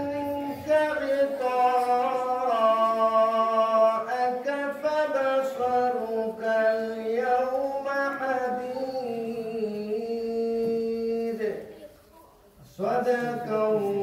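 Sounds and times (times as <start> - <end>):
man reciting melodically: 0.0 - 11.8, 12.6 - 14.0.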